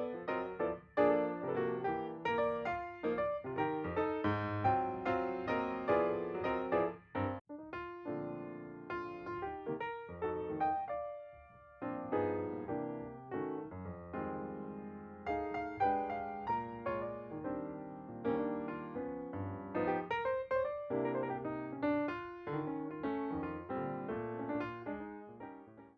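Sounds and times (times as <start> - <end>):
solo piano melody: 0.0 - 25.9.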